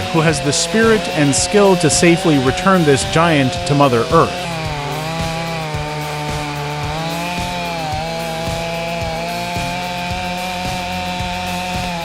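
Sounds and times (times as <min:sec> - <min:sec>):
background music with steady beat: 0:00.0 - 0:12.0
chainsaw cutting under load: 0:00.0 - 0:12.0.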